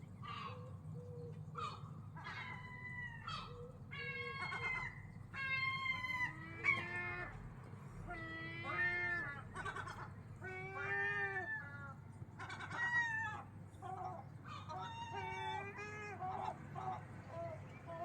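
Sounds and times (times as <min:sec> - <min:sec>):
seagulls calling: 0:00.2 - 0:07.4, 0:08.1 - 0:18.0.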